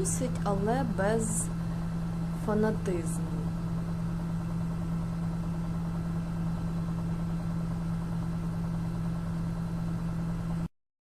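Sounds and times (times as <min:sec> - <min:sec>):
washing machine motor hum: 0:00.0 - 0:10.7.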